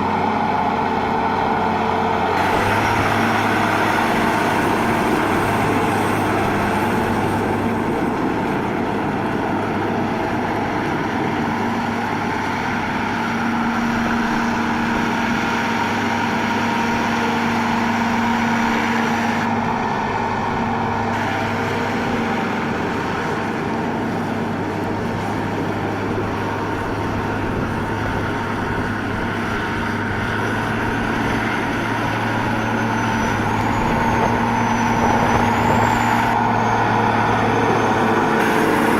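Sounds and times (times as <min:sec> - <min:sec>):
tractor diesel engine droning: 0:00.0 - 0:38.9.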